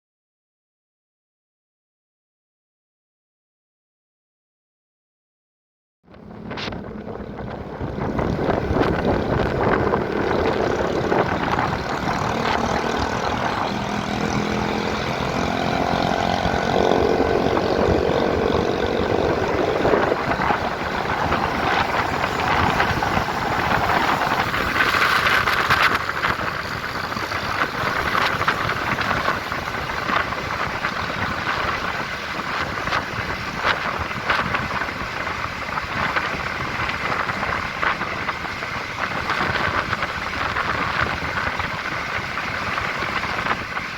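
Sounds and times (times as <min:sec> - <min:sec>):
diesel locomotive engines running: 0:06.1 - 0:43.9.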